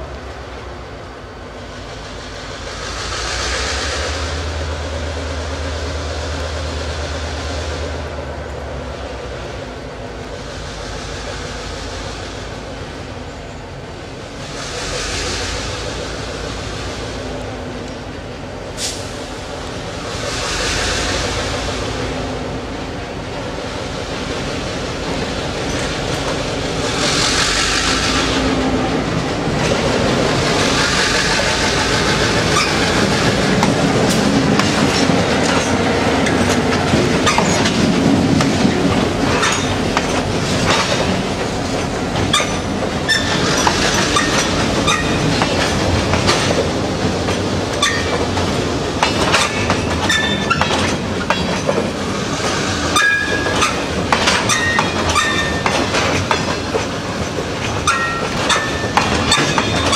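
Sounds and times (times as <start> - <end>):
diesel locomotive passing: 0.0 - 59.9
train wheels clicking on rail joints: 0.0 - 59.9.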